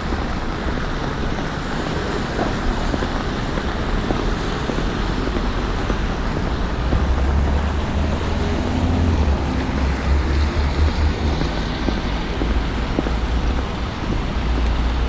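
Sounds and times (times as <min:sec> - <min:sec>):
traffic on wet roads: 0:00.0 - 0:15.0.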